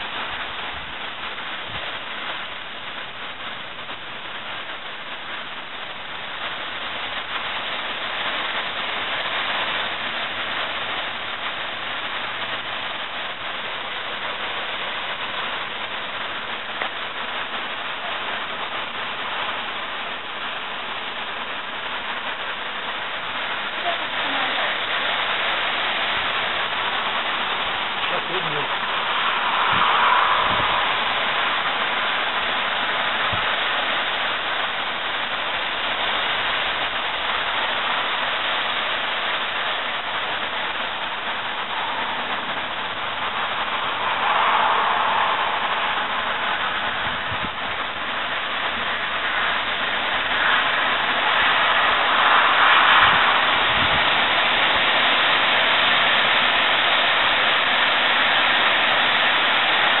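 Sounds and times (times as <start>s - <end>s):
wind rushing through trees: 0.0s - 60.0s.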